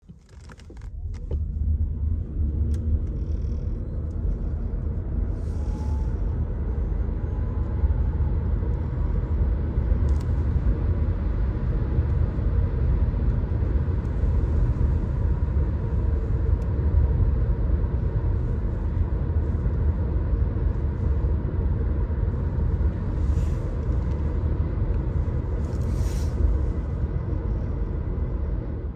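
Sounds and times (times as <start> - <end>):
road and tyre noise rumble: 0.0 - 28.9.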